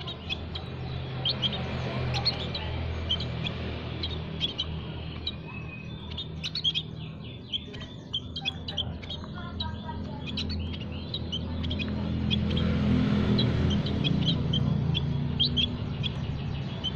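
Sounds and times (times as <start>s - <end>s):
songbirds chirping: 0.0s - 16.9s.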